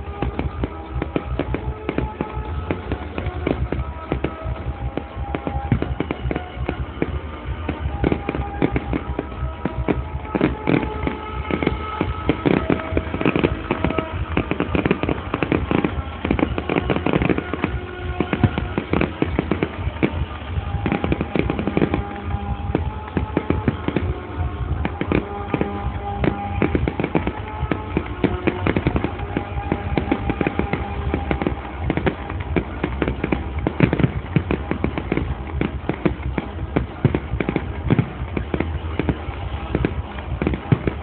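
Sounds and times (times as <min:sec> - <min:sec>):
fireworks bangs and crackles: 0:00.0 - 0:41.0
music playing: 0:00.0 - 0:41.0.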